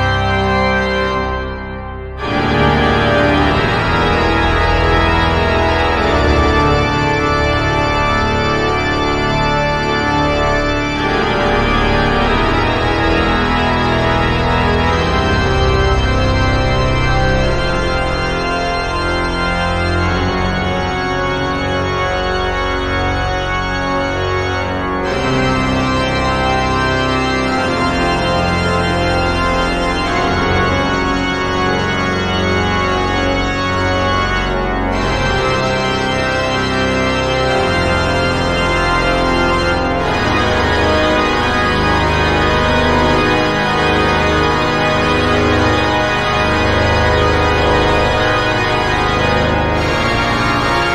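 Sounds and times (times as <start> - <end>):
pipe organ playing held chords: 0.0 - 50.9.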